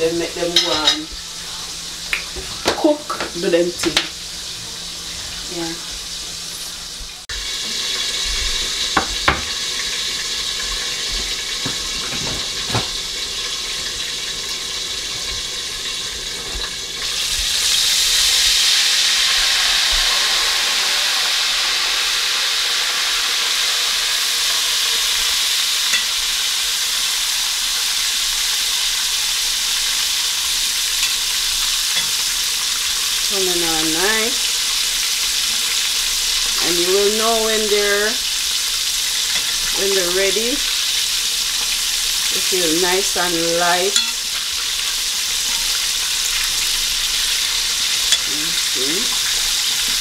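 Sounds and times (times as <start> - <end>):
chicken deep-frying in oil: 0.0 - 50.0.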